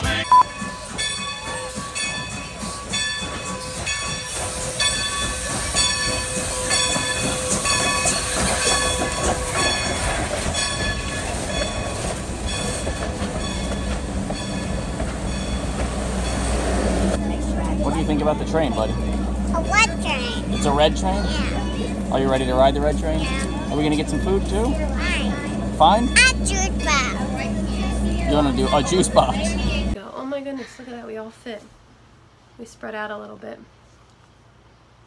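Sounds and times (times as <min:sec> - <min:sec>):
locomotive bell ringing: 0:00.0 - 0:30.0
low train rumble: 0:00.0 - 0:33.8.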